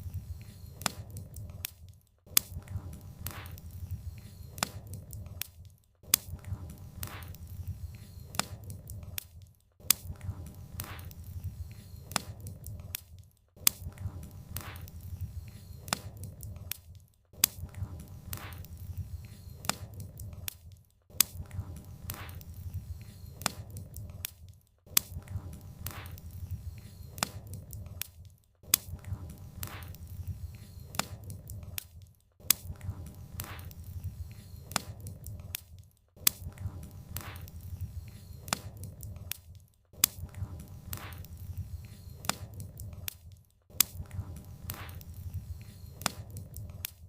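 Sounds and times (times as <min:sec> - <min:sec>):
firewood crackling and popping: 0:00.0 - 0:47.0
low rumble of flames: 0:02.4 - 0:09.2, 0:09.9 - 0:13.0, 0:13.7 - 0:16.9, 0:17.5 - 0:20.6, 0:21.2 - 0:31.8, 0:32.5 - 0:35.6, 0:36.3 - 0:39.4, 0:40.0 - 0:43.1, 0:43.8 - 0:46.9.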